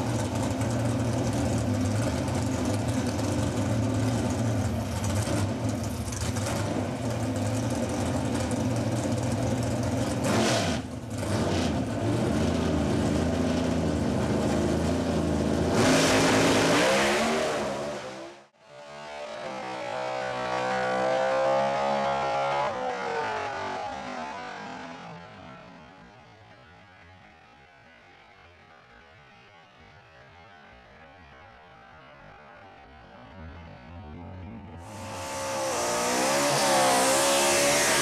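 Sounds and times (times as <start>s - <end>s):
drag car engine idling and revving: 0.0s - 26.8s, 33.1s - 38.0s.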